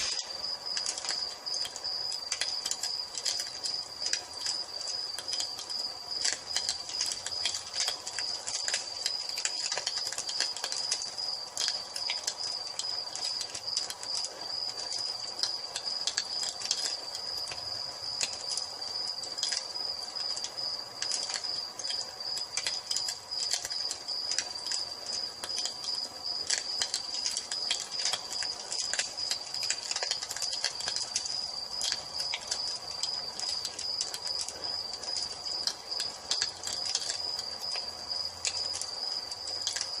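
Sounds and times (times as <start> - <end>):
cricket trill: 0.0 - 40.0
wood fire crackling and popping: 0.0 - 40.0.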